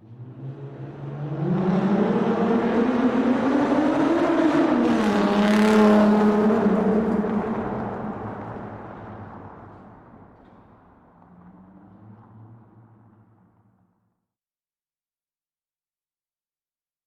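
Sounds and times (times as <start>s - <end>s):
car engine accelerating: 0.0s - 14.1s.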